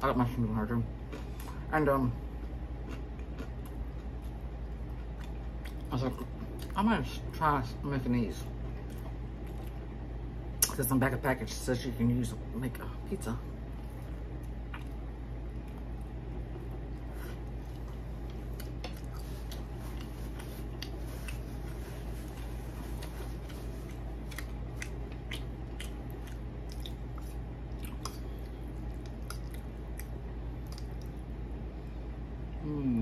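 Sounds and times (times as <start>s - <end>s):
steady low hum: 0.0s - 33.0s
chewing pizza: 1.0s - 7.0s, 8.3s - 10.8s, 13.5s - 31.5s.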